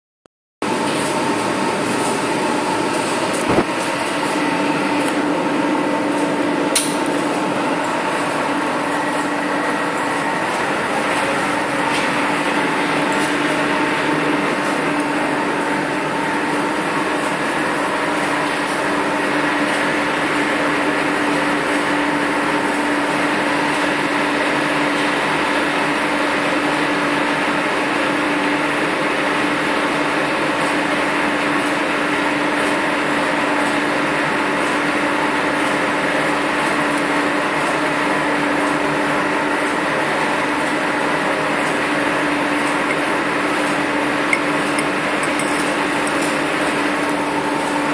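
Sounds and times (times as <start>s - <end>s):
machine hum and air noise: 0.6s - 47.9s.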